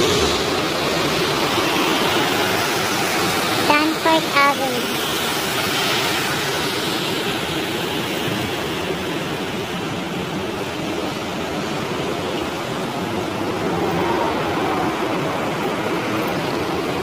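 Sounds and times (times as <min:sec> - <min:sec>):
tyres hissing on wet road: 0:00.0 - 0:17.0.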